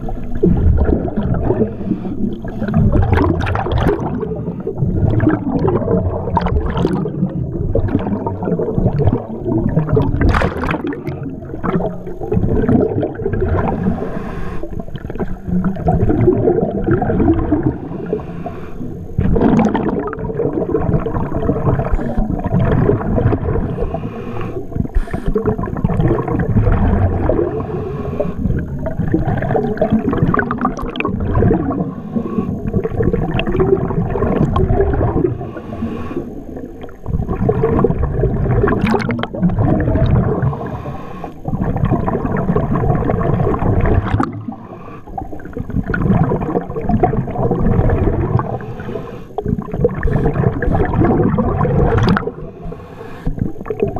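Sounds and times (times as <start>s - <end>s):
underwater gurgling and bubbles: 0.0s - 53.9s.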